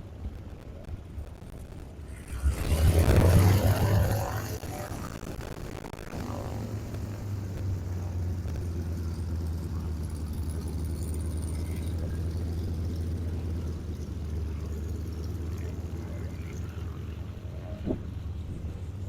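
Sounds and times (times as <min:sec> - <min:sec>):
propeller airplane engine drone: 0:00.0 - 0:19.0.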